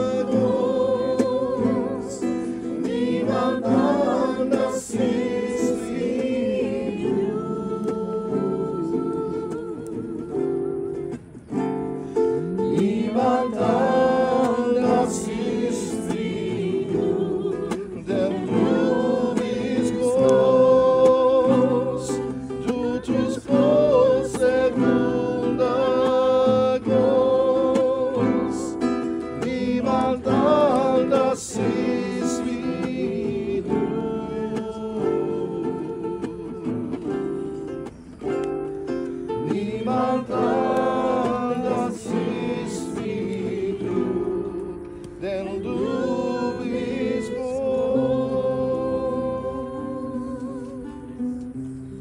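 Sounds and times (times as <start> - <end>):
acoustic guitar strummed: 0.0 - 52.0
voices singing worship song: 0.0 - 52.0.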